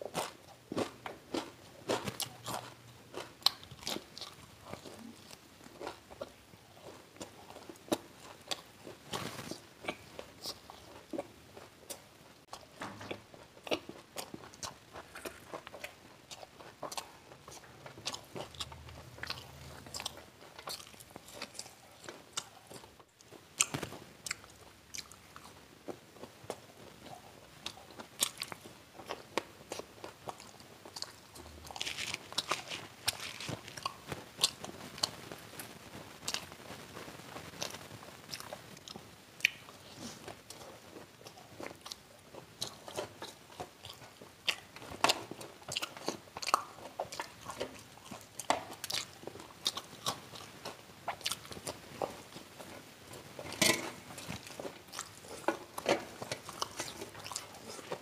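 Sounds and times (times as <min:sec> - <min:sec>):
crunching and chewing fried food: 0:00.0 - 0:58.0.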